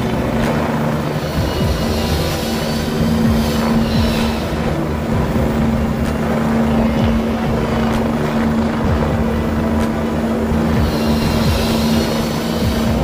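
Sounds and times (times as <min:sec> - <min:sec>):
helicopter droning: 0:00.0 - 0:13.0.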